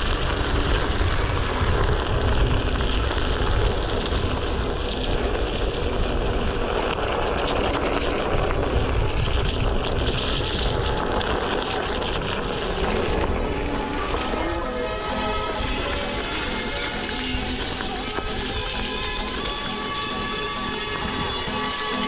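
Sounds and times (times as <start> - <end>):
tyre noise on gravel: 0.0 - 22.0
wind buffeting microphone: 0.0 - 22.0.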